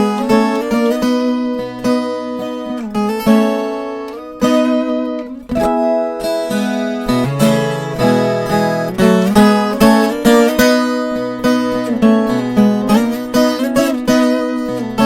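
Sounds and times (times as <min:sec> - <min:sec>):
ten-string guitar picking and strumming: 0:00.0 - 0:15.0.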